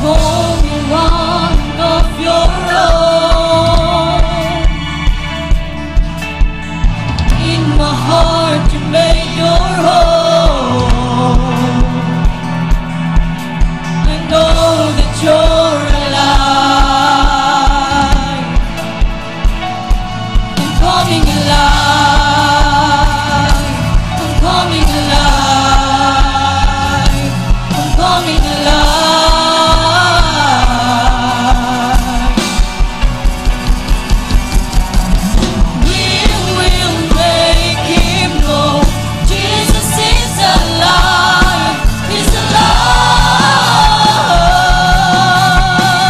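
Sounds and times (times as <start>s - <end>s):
backing music with beat: 0.0s - 46.0s
choir singing worship song: 0.0s - 46.0s.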